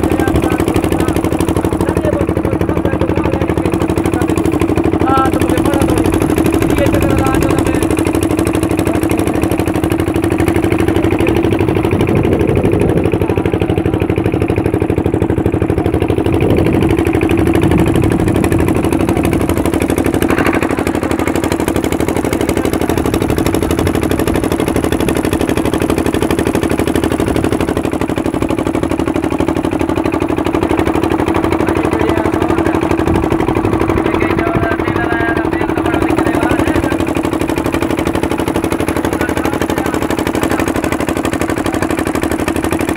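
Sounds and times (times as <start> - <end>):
boat engine droning: 0.0 - 42.9.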